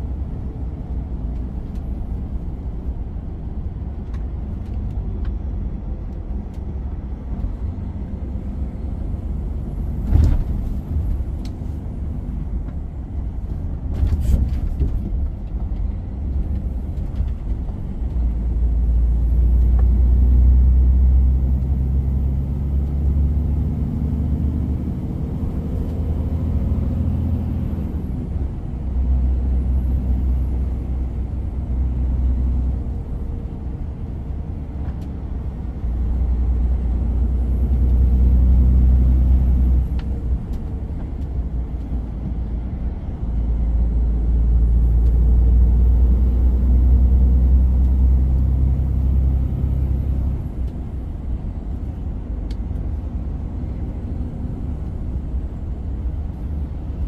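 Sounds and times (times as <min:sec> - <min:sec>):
road rumble: 0:00.0 - 0:57.0
truck diesel engine: 0:00.0 - 0:57.0.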